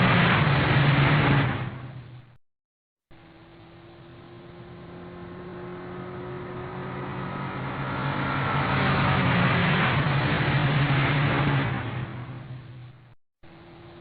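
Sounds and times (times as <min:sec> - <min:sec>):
vehicle engine and road noise: 0:00.0 - 0:02.4, 0:03.1 - 0:14.0.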